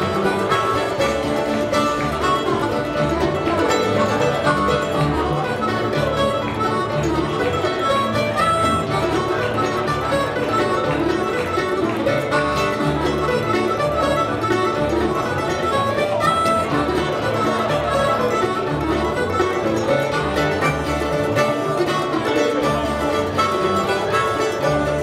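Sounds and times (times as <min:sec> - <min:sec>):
acoustic band playing bluegrass: 0:00.0 - 0:25.0.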